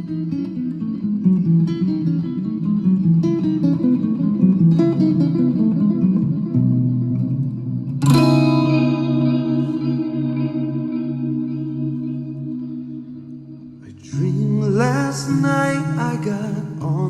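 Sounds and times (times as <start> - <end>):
guitar chord ringing out: 0.0 - 17.0
guitar picking: 0.0 - 17.0.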